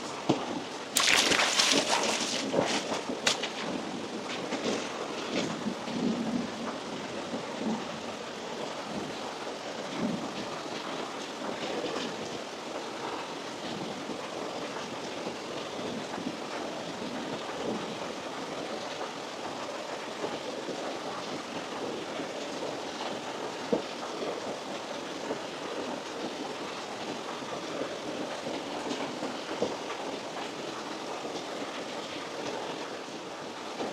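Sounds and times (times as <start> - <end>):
rain-like rushing noise: 0.0 - 33.9.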